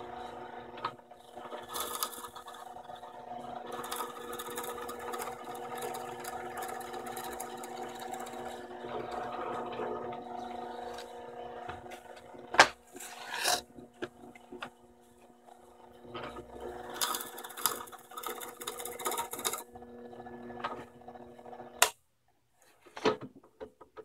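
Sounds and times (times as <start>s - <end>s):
drill bit boring through wood: 0.0s - 14.8s, 15.4s - 21.8s
drill press motor humming: 0.0s - 21.9s.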